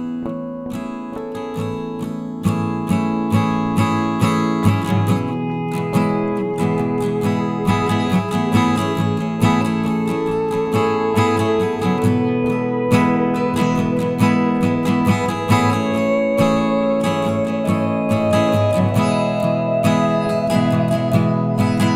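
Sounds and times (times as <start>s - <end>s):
strummed acoustic guitar: 0.0s - 21.9s.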